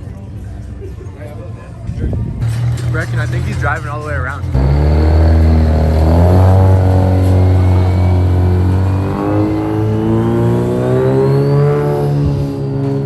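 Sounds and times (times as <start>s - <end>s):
car engine revving: 2.4s - 13.0s.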